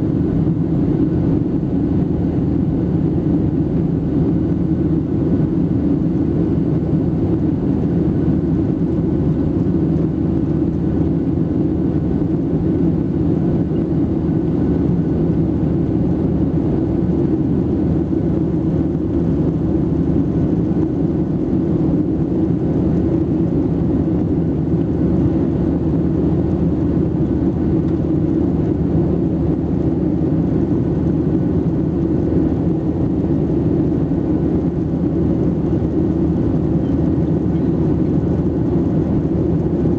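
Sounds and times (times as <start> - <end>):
airplane cabin jet engine rumble: 0.0 - 39.9.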